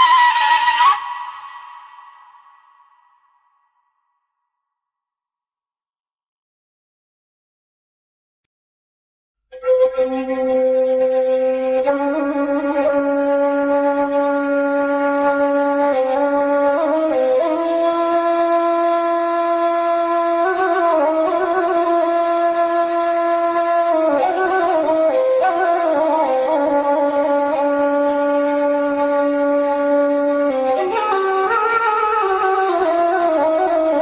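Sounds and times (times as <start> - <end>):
wind instrument slow melody: 0.0 - 3.0, 9.5 - 34.0.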